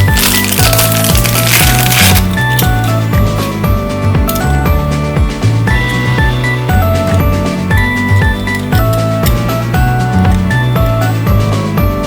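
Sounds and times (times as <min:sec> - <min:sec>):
bouncy synthesized music with drums: 0:00.0 - 0:12.0.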